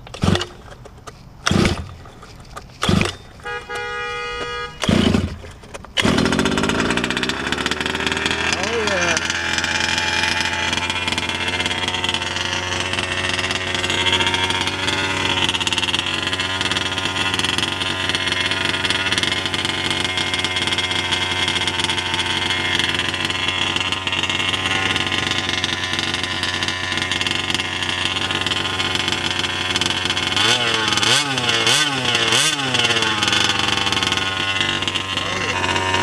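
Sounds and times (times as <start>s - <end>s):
two-stroke engine running: 0.0s - 36.0s.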